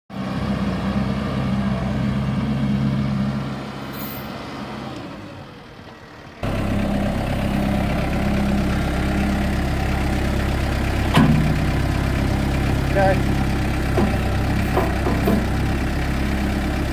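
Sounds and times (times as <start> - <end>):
tractor diesel engine running: 0.1 - 16.9.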